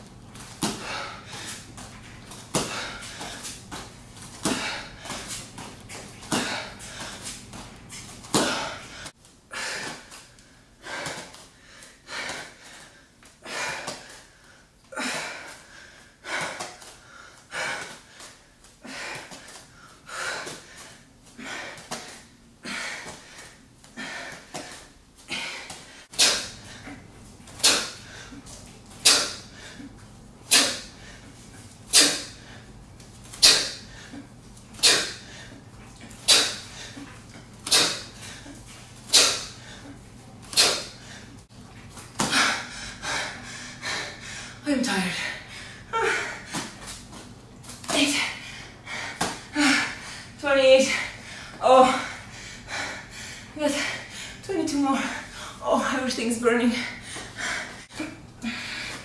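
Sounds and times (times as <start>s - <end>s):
woman breathing hard: 0.6s - 3.8s, 4.4s - 32.8s, 33.4s - 41.5s, 42.2s - 46.9s, 47.9s - 55.7s, 56.7s - 59.0s.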